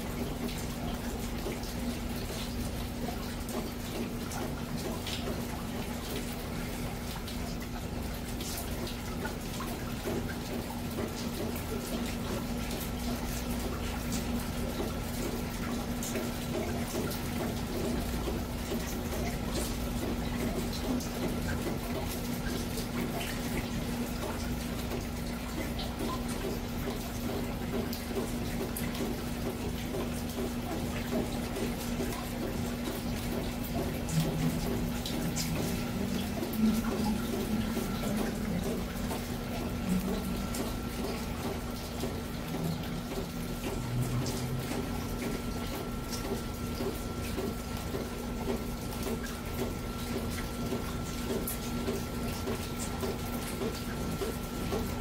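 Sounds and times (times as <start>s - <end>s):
rain falling: 0.0s - 55.0s
raindrops ticking and splashing: 0.0s - 55.0s.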